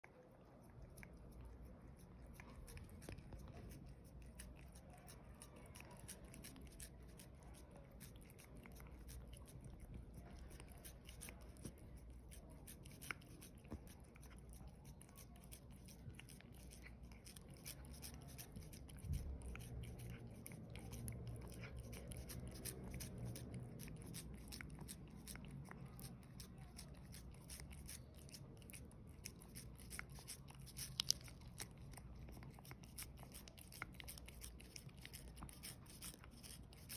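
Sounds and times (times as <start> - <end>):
cat licking and chewing: 0.0 - 36.9.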